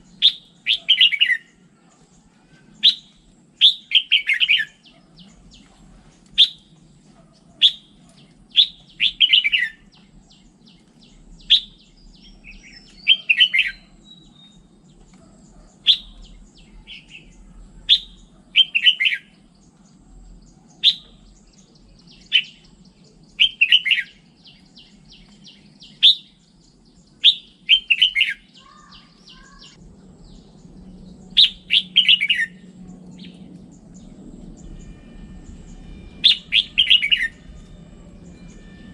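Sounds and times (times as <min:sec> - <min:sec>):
bird singing warbling phrases: 0:00.0 - 0:38.9.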